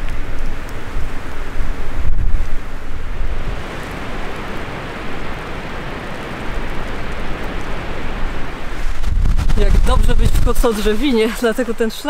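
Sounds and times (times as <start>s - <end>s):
gusty wind through shrubs: 0.0s - 12.0s
wind buffeting microphone: 0.0s - 12.0s.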